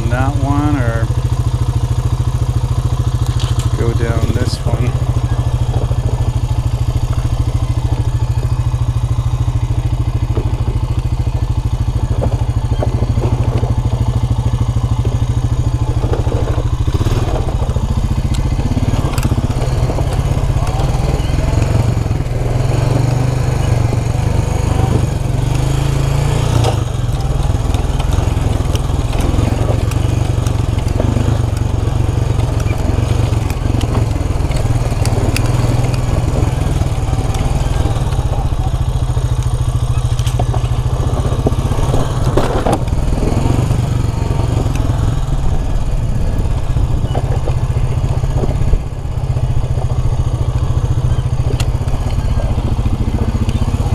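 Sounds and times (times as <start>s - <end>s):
motorcycle engine running: 0.0s - 53.9s
motorcycle striking rocks: 1.0s - 53.9s.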